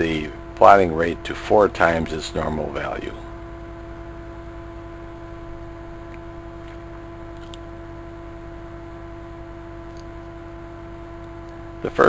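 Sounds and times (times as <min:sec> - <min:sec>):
steady tonal hum: 0:00.0 - 0:12.0.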